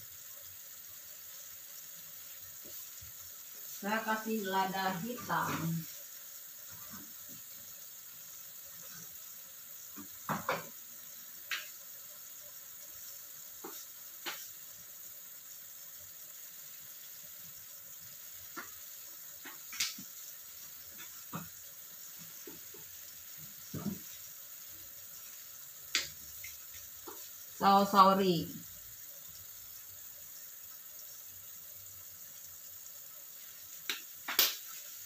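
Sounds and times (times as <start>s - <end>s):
sauce simmering with popping bubbles: 0.0s - 35.0s.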